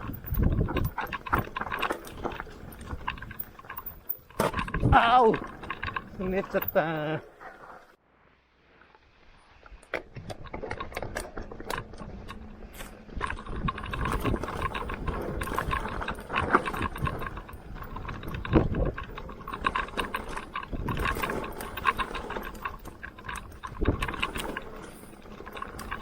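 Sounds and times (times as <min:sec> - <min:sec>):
mountain bike rattling on dirt trail: 0:00.0 - 0:08.0, 0:09.4 - 0:26.0.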